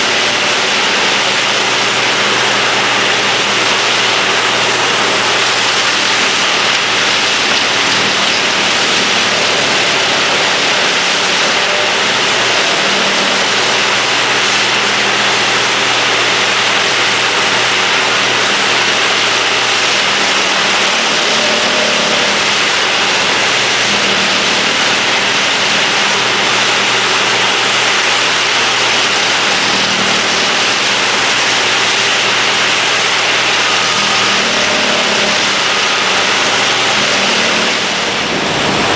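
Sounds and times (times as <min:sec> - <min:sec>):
diesel engine hum: 0:00.0 - 0:38.9
wood chipper rushing noise: 0:00.0 - 0:38.9.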